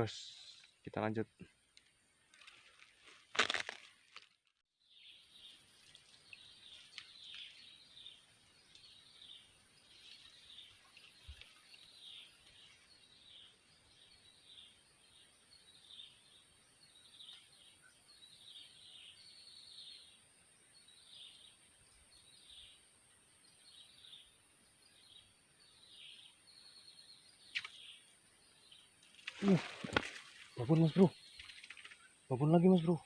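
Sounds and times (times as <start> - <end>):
bird chirping: 4.8 - 33.0.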